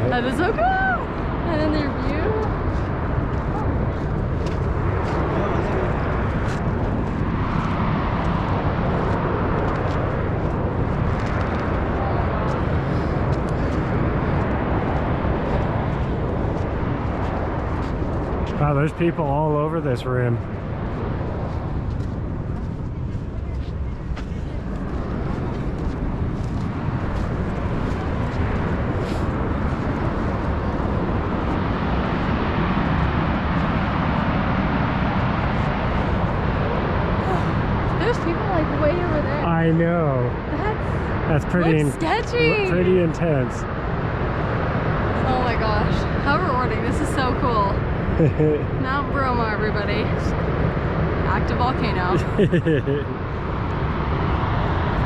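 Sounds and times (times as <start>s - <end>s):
volcanic crater rumbling: 0.0s - 55.0s.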